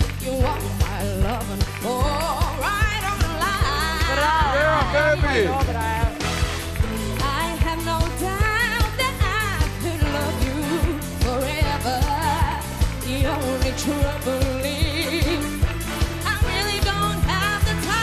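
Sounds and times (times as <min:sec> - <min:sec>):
woman singing with vibrato: 0:00.0 - 0:05.2, 0:07.2 - 0:18.0
bass line: 0:00.0 - 0:18.0
drum beat: 0:00.0 - 0:18.0.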